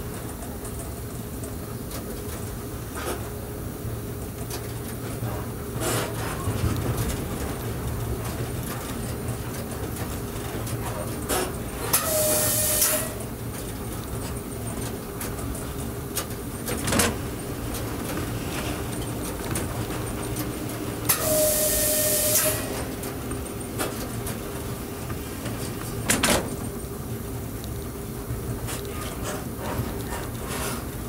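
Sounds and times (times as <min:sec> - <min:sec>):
electric train rumble and hum: 0:00.0 - 0:31.0.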